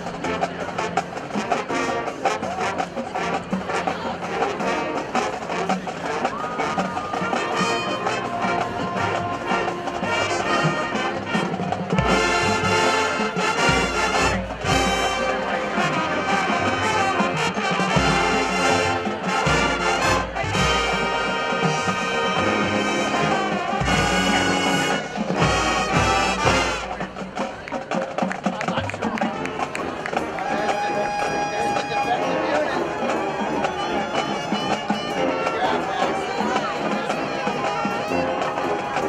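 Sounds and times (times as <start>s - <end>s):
marching band playing: 0.0s - 39.0s.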